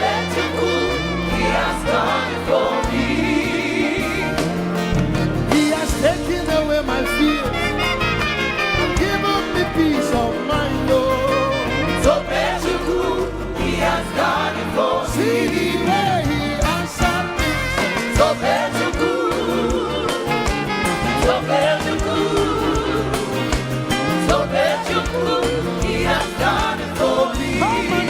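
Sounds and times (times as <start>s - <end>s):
band with drums and bass: 0.0s - 28.0s
voices singing: 0.0s - 28.0s.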